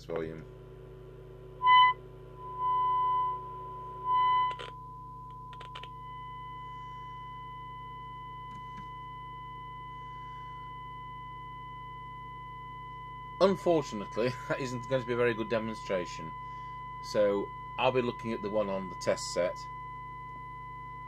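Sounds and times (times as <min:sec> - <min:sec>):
low hum: 0:00.0 - 0:21.0
sine-wave test tone from radio: 0:00.1 - 0:21.0.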